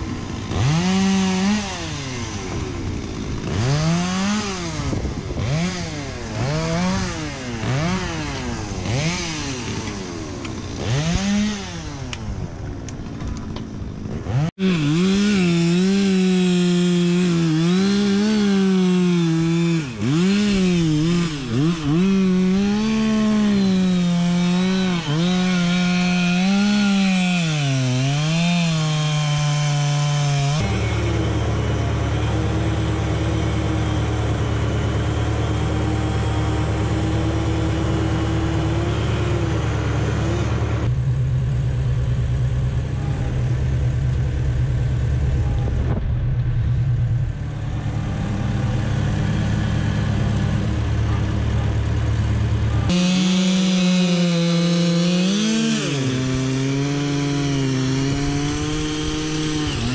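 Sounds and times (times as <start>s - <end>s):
chainsaw revving: 0.0s - 12.8s, 13.7s - 40.9s, 47.5s - 59.9s
chainsaw cutting tree stump: 0.0s - 40.9s, 47.6s - 59.9s
tractor engine running: 0.0s - 59.9s.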